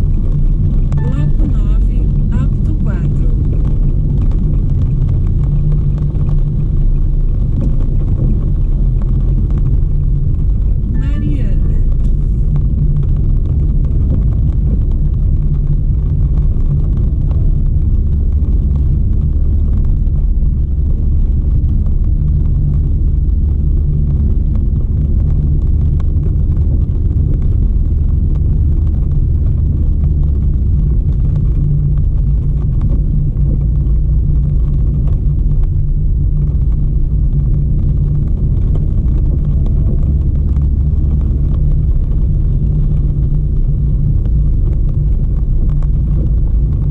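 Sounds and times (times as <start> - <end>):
car rumbling on the move: 0.0 - 46.9.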